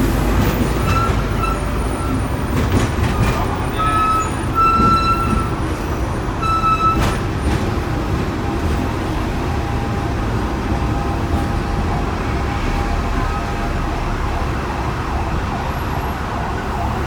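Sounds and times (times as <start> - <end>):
tram clack: 0.0 - 17.0
tram wheels and motor rumble: 0.0 - 17.0.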